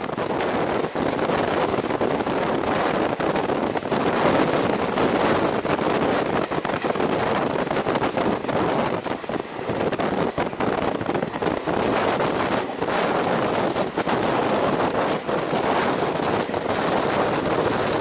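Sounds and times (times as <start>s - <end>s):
passenger train wheels rolling: 0.0s - 18.0s
wind rushing past microphone: 0.0s - 18.0s.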